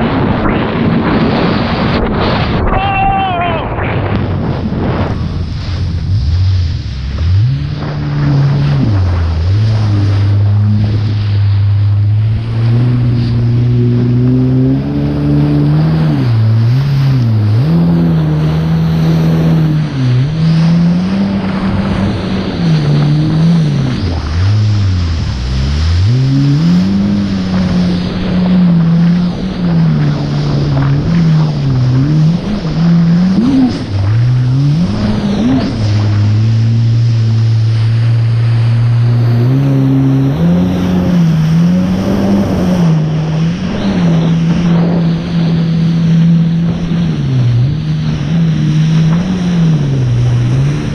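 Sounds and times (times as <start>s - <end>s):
jet ski engine running: 0.0s - 50.9s
water spray and wind rushing: 0.0s - 50.9s.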